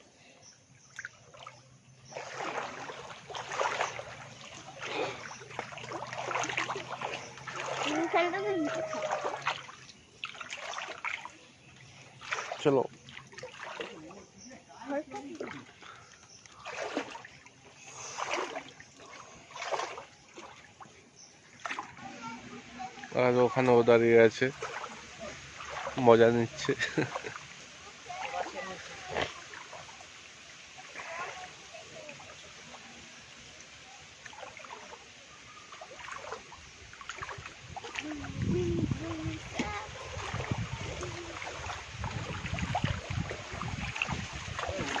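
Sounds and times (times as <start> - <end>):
water splashing from wading: 0.0 - 45.0.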